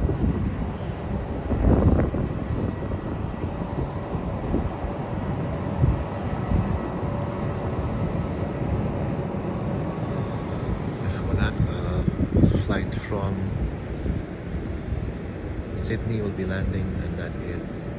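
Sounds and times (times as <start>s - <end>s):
distant jet engines running: 0.0s - 17.9s
wind buffeting microphone: 0.0s - 17.9s.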